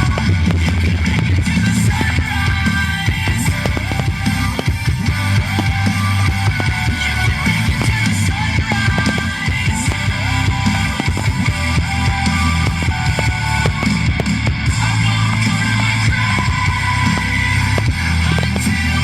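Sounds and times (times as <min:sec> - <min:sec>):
rock music with electric guitar: 0:00.0 - 0:19.0
sharp cracks: 0:00.0 - 0:19.0.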